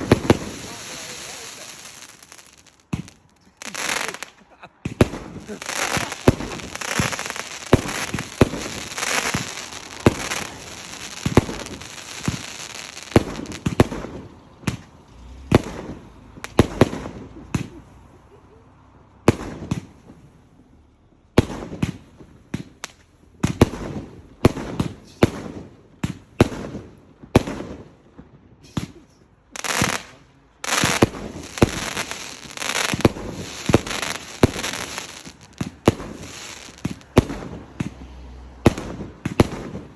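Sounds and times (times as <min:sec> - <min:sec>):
firework bangs: 0:00.0 - 0:18.0, 0:19.2 - 0:20.4, 0:21.3 - 0:39.9
firework crackling: 0:00.0 - 0:18.2, 0:19.3 - 0:20.4, 0:21.4 - 0:39.9.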